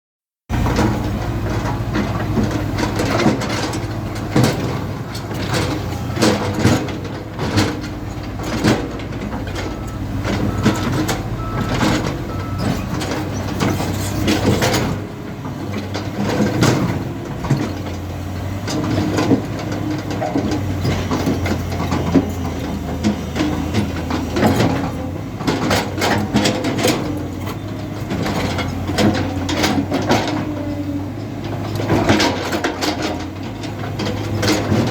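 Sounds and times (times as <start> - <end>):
diesel engine running: 0.5 - 34.9.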